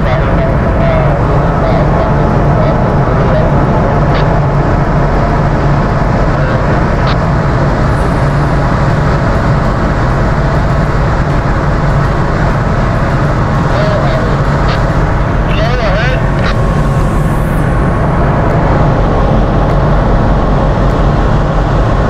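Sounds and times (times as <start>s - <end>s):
ship engine rumbling: 0.0s - 22.0s.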